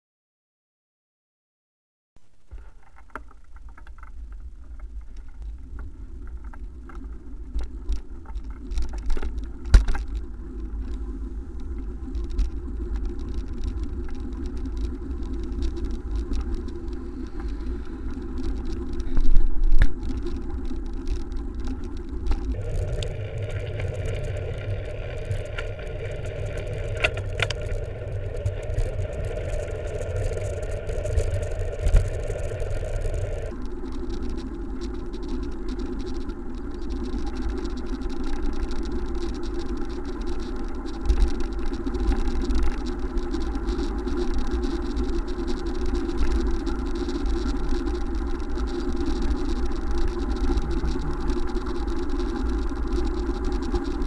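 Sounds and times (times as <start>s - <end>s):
bicycle rumbling on paved road: 2.4s - 54.0s.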